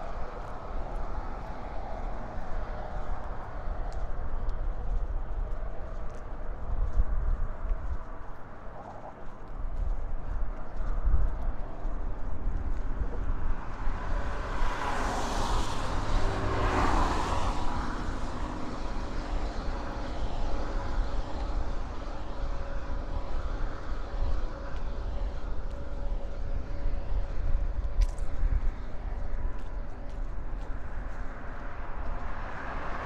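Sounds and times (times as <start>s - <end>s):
traffic rumble: 0.0s - 33.0s.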